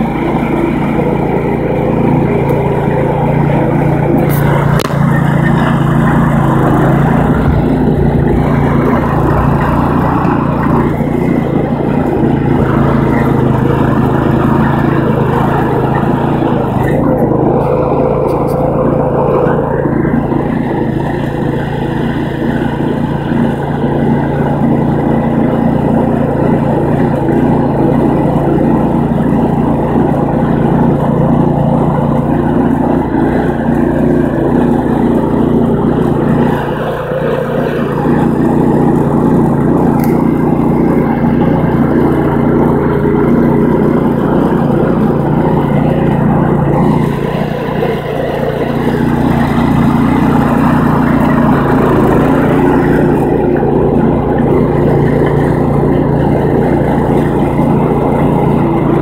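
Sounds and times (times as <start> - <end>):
garden tractor engine running: 0.0 - 59.0.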